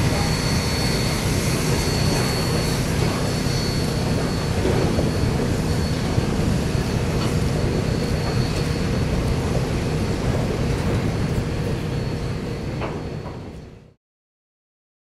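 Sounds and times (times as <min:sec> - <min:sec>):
freight train wheels rumbling on rail: 0:00.0 - 0:14.0
high whine: 0:00.0 - 0:14.0.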